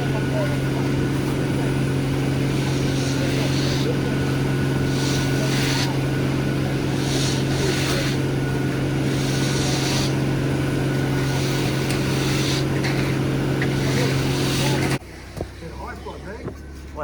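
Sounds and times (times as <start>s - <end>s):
hissing pump surge: 0.0s - 15.0s
heavy diesel engine running: 0.0s - 17.0s.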